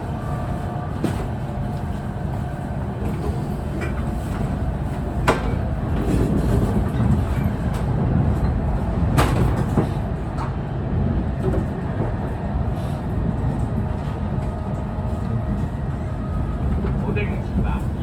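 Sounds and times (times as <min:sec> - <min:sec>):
train rumble inside passenger car: 0:00.0 - 0:18.0.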